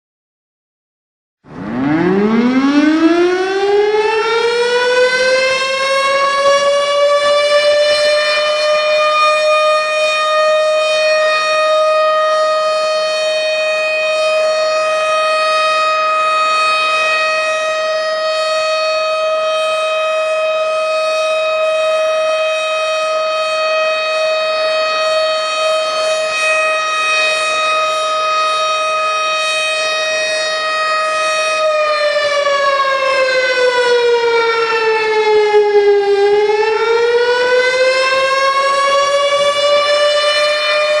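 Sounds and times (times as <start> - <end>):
warning siren wailing: 1.4 - 41.0.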